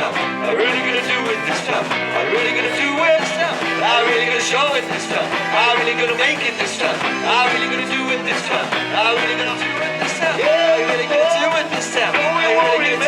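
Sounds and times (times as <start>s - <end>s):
bending lead guitar line: 0.0s - 13.0s
rock band playing: 0.0s - 13.0s.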